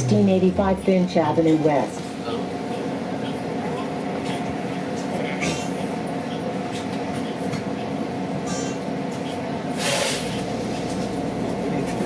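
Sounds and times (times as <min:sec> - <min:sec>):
bus drivetrain drone: 0:00.0 - 0:12.0.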